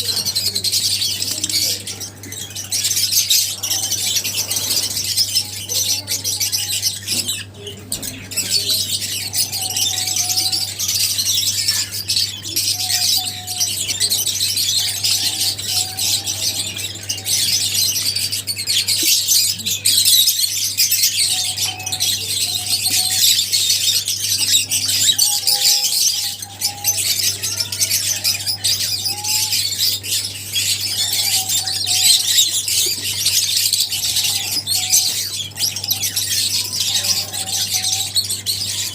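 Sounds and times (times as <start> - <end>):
lovebirds chattering and squawking: 0.0 - 38.9.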